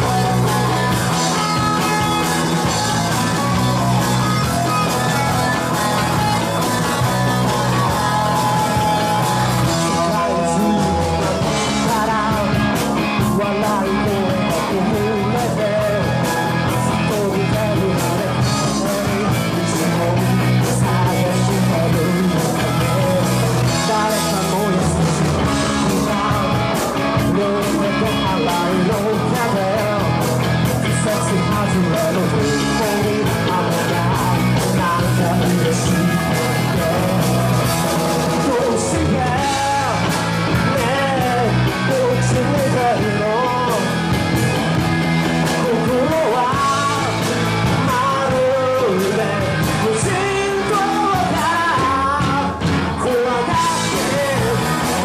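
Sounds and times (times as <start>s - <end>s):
man singing: 0.0s - 55.0s
rock band playing: 0.0s - 55.0s.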